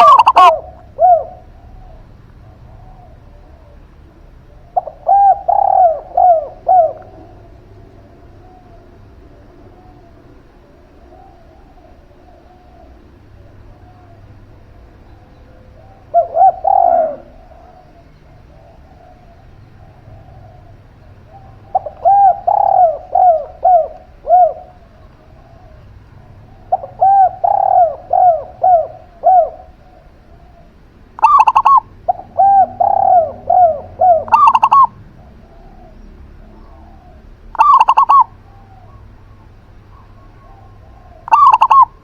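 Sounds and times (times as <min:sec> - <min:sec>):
doves cooing: 0:00.0 - 0:42.0
short high dove calls: 0:00.0 - 0:42.0.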